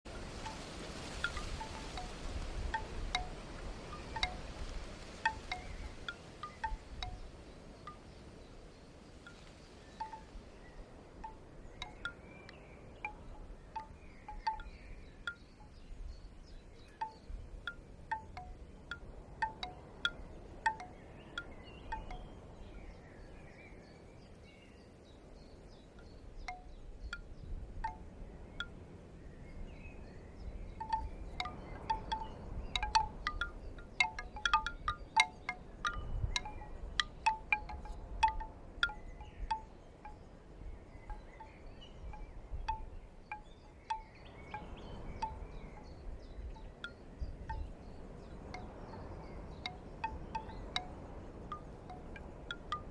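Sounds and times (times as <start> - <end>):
wind rumbling on microphone: 0.0 - 52.9
bamboo wind chime clacking: 0.1 - 23.5, 25.8 - 29.7, 30.4 - 52.9.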